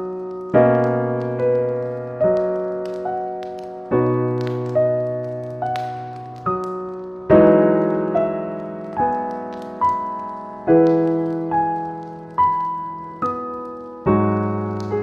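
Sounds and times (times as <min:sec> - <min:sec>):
fireplace fire crackling: 0:00.0 - 0:15.0
slow solo piano melody: 0:00.0 - 0:15.0.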